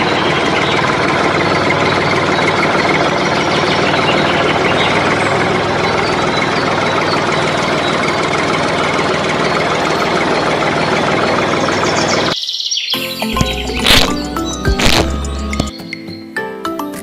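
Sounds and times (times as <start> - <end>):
small engine idling with knocking beat: 0.0 - 12.4, 13.3 - 15.8.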